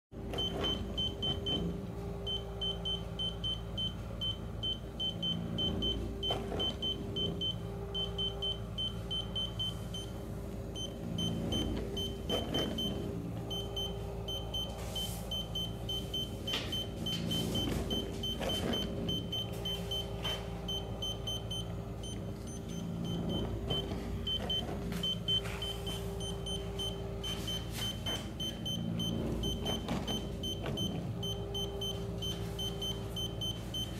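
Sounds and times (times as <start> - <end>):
dishwasher beeping: 0.2 - 33.9
dishwasher humming: 0.2 - 33.9.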